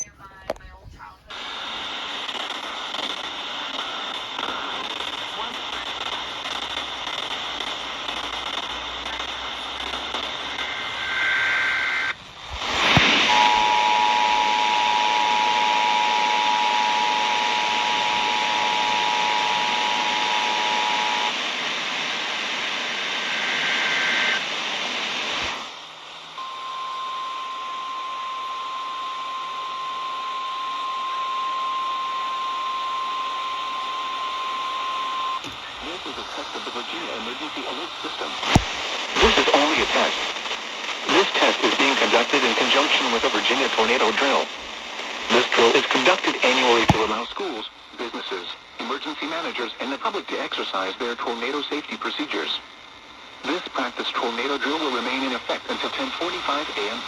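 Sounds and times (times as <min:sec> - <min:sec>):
radio hiss: 0:00.0 - 0:57.0.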